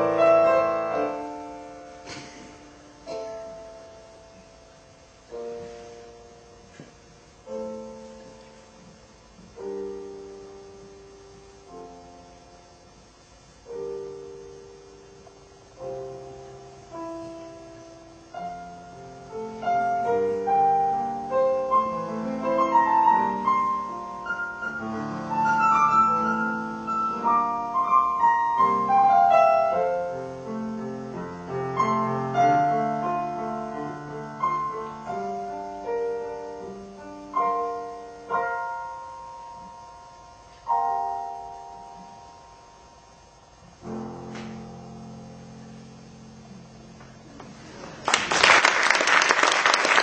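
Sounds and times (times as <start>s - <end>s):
solo piano: 0.0s - 48.3s.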